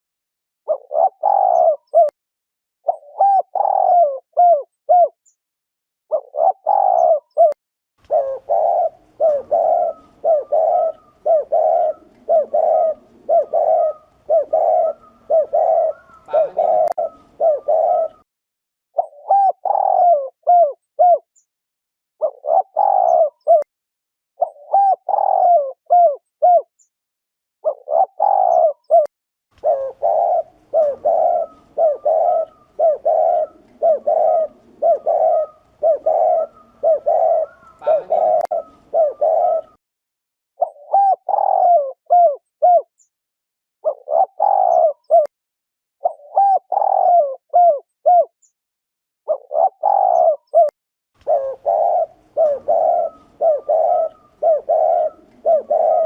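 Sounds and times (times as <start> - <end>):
dove cooing: 0.7 - 2.1, 2.9 - 5.2, 6.1 - 18.2, 19.0 - 21.2, 22.2 - 23.7, 24.4 - 26.7, 27.6 - 39.8, 40.6 - 42.9, 43.8 - 45.3, 46.0 - 48.3, 49.3 - 56.0.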